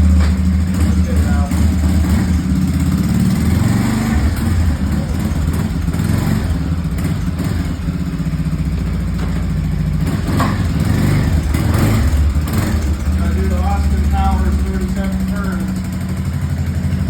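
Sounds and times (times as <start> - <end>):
vehicle engine running at low revs: 0.0 - 17.0.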